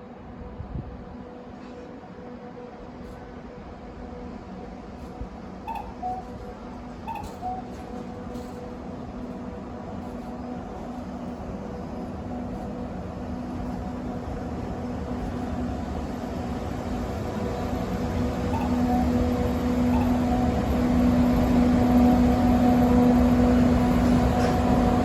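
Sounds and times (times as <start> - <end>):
train mechanical hum: 0.0 - 25.0.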